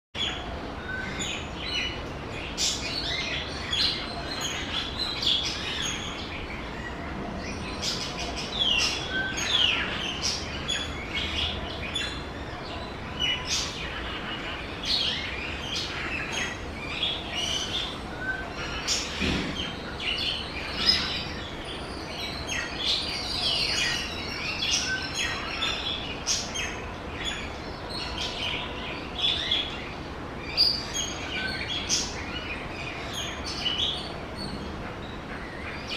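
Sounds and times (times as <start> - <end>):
birds chirping and calling: 0.2 - 35.9.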